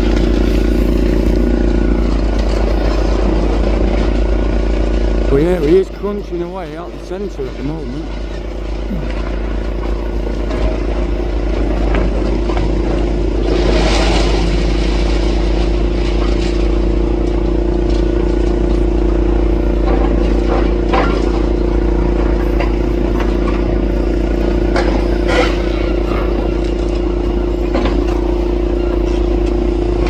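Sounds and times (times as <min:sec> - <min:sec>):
excavator running: 0:00.0 - 0:30.0.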